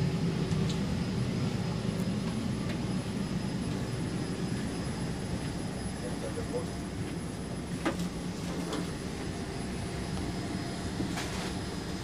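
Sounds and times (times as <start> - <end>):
aircraft systems rumble and hum: 0.0 - 12.0.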